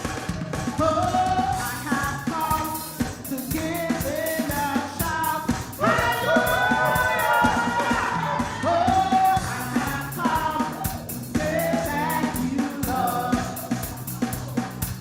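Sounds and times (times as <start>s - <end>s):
band with steady drum beat: 0.0s - 15.0s
singers: 0.0s - 15.0s.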